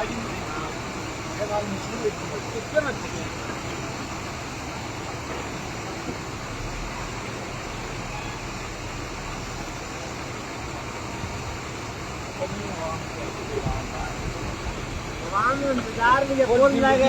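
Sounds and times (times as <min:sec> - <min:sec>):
heavy machine engine droning: 0:00.0 - 0:17.0.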